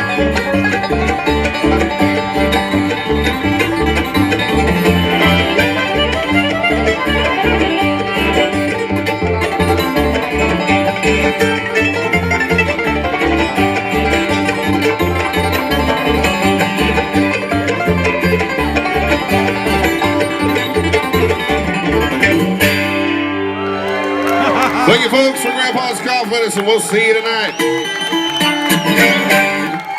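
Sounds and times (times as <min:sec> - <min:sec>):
bluegrass string band playing: 0:00.0 - 0:29.9.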